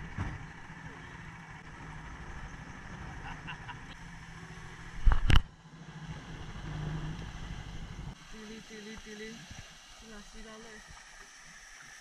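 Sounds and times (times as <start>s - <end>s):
low engine hum: 0.0s - 11.6s.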